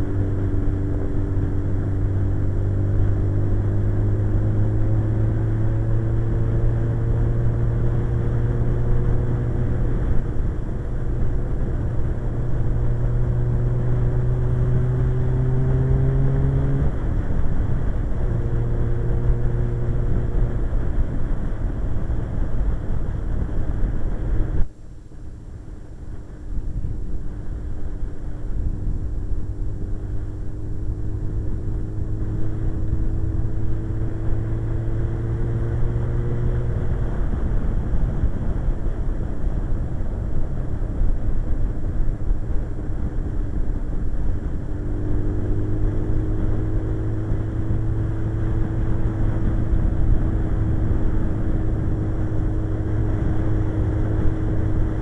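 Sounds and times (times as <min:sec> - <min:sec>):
motorcycle engine running: 0:00.0 - 0:24.7, 0:25.3 - 0:55.0
wind rush: 0:00.0 - 0:24.7, 0:25.3 - 0:55.0.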